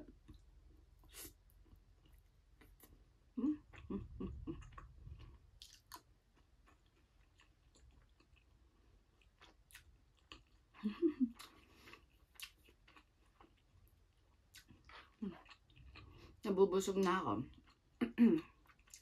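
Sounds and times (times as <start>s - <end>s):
chewing and mouth sounds: 0.0s - 16.4s, 17.4s - 19.0s.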